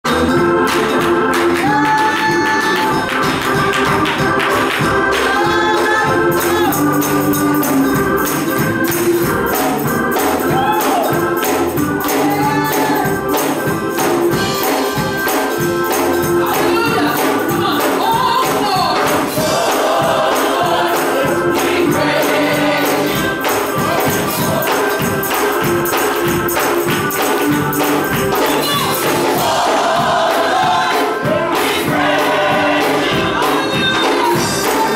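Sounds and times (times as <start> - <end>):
band accompaniment: 0.0 - 34.9
gospel choir singing: 0.1 - 34.9
shaken tambourine beat: 0.1 - 34.9.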